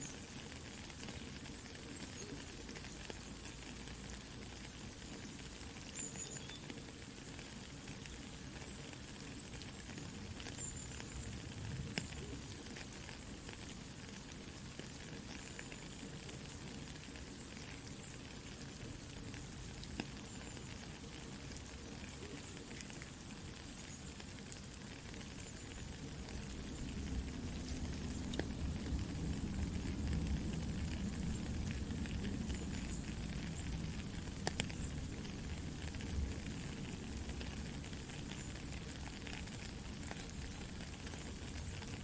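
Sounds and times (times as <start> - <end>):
campfire crackling and popping: 0.0 - 42.0
soft rain hissing: 0.0 - 42.0.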